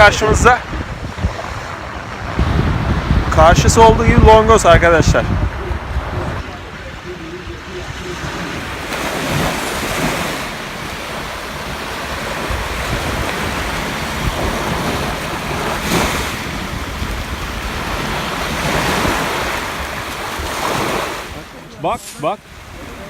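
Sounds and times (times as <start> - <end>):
wind buffeting microphone: 0.0 - 21.8.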